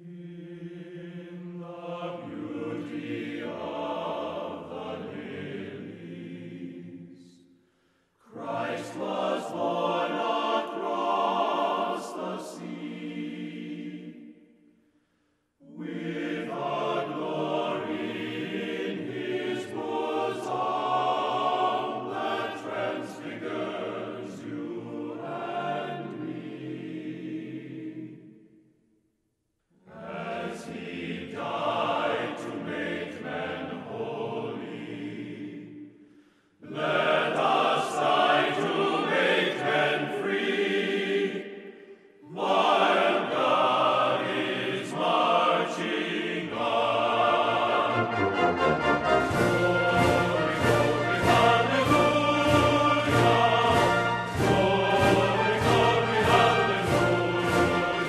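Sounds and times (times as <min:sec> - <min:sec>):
choral singing in harmony: 0:00.0 - 0:07.6, 0:08.2 - 0:14.8, 0:15.6 - 0:28.6, 0:29.8 - 0:58.0.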